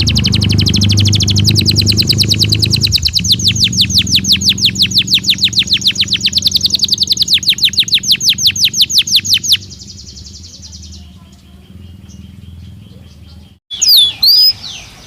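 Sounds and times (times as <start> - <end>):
low steady hum: 0.0 - 14.2
canary singing trill: 0.0 - 15.0.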